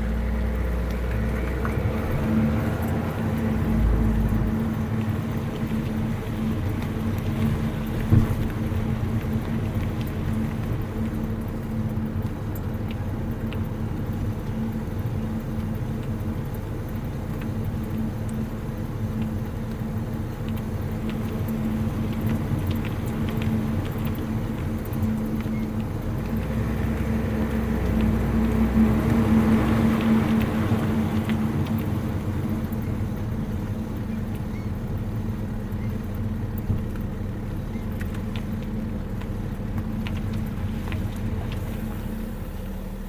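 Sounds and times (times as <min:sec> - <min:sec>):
tyre and road noise: 0:00.0 - 0:18.2, 0:18.9 - 0:43.0.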